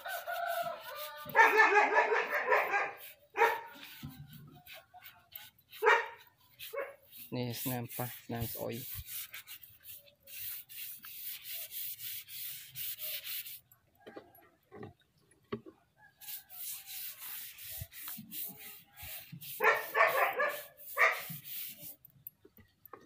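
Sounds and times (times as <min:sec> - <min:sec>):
rubbing strokes on wooden board: 0:00.0 - 0:13.7, 0:16.2 - 0:22.1.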